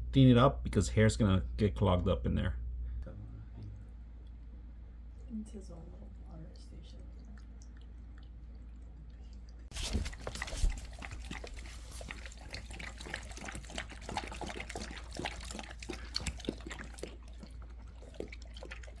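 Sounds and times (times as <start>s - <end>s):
cat lapping water: 3.4s - 19.0s.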